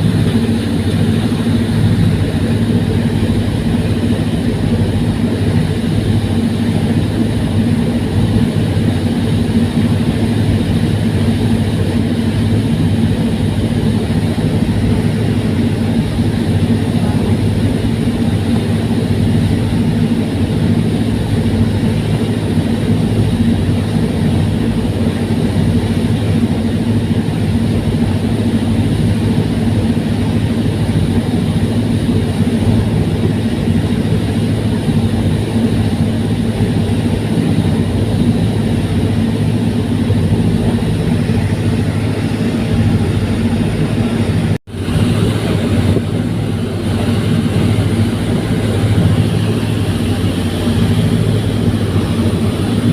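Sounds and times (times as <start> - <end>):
ferry engines droning: 0.0 - 52.9.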